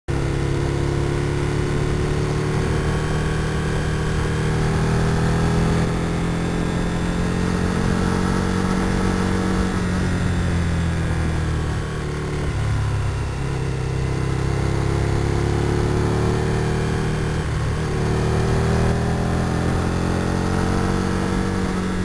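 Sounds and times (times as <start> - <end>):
motorcycle engine running: 0.1 - 22.0.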